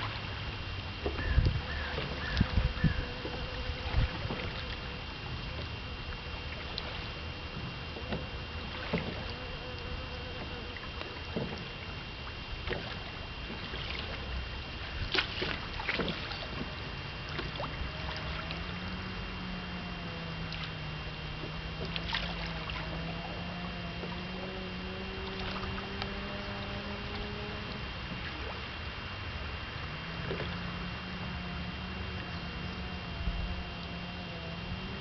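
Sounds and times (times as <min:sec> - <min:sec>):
boat low rumble: 0:00.0 - 0:35.0
faint steady hum: 0:00.0 - 0:35.0
small water splashes: 0:00.0 - 0:35.0.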